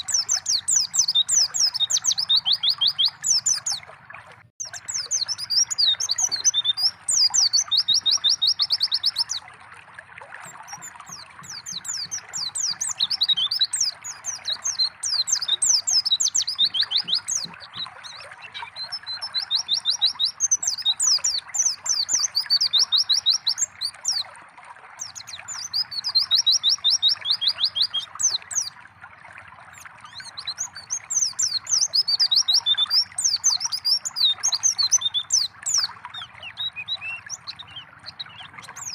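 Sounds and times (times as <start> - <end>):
bird chirping trills: 0.0 - 3.9, 4.6 - 9.4, 10.4 - 24.2, 25.0 - 28.8, 29.8 - 38.9
trickling water: 0.0 - 38.9.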